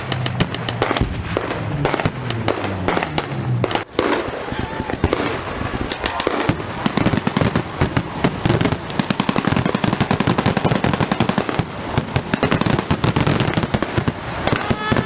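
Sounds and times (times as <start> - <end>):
rapid blank gunfire: 0.0 - 15.0.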